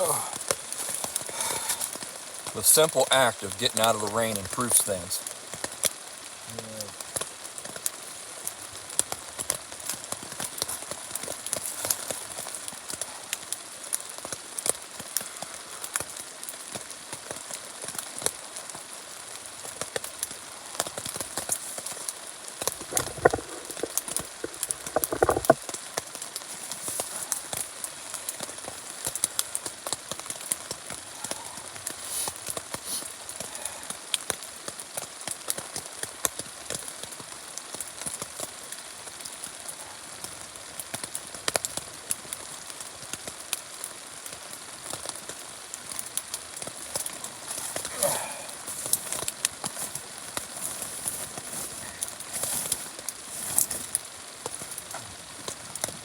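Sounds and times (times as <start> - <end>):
rain pattering on fabric: 0.0 - 56.0.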